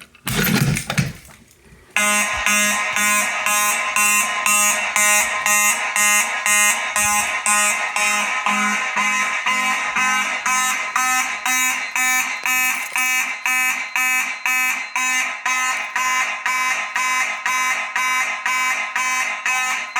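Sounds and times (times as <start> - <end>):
buzzy fire alarm horn blasts: 2.0 - 19.9.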